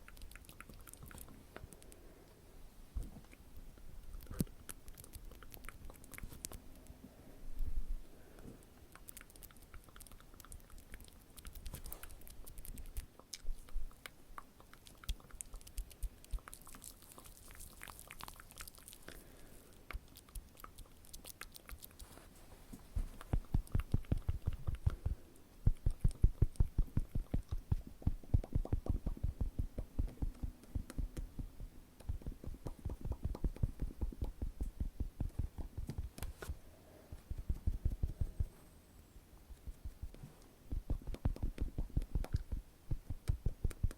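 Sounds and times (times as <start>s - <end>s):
asmr mouth sounds: 0.0s - 2.0s, 4.0s - 6.9s, 8.8s - 22.0s, 23.0s - 36.2s, 37.1s - 38.5s, 39.6s - 43.9s.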